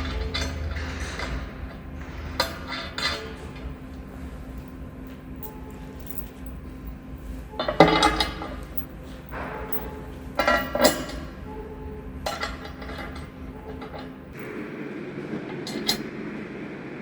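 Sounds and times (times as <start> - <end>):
ringing clatter: 0.0 - 14.5
steel tools clanking: 0.0 - 14.5
steady low hum: 0.0 - 17.0.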